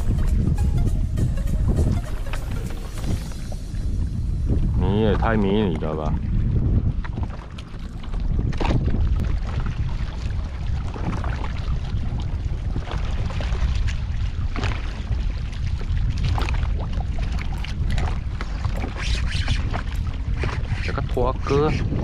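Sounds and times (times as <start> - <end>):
wind rumbling on microphone: 0.0 - 22.0
water sloshing around raft: 1.8 - 22.0.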